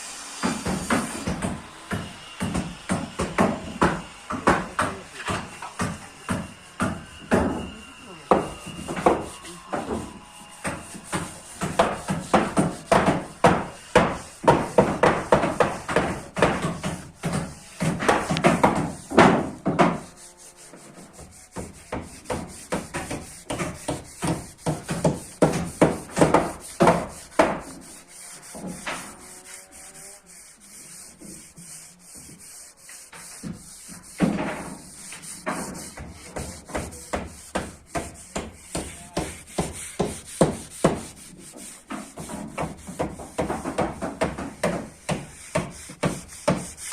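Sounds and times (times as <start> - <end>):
rhythmic rubbing strokes: 4.3 - 46.9.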